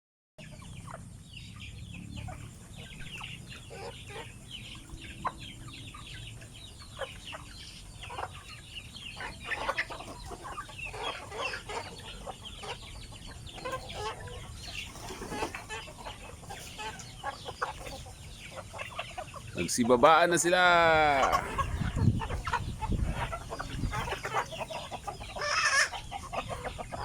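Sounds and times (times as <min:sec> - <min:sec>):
chickens clucking: 0:00.4 - 0:27.0.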